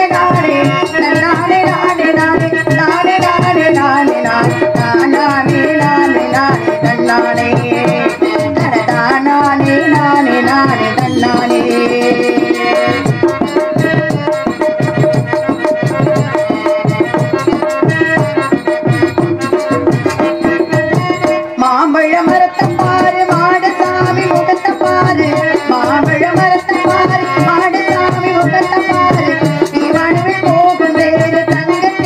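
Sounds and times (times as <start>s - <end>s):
tabla drumming: 0.0s - 32.0s
woman singing into microphone: 0.0s - 32.0s.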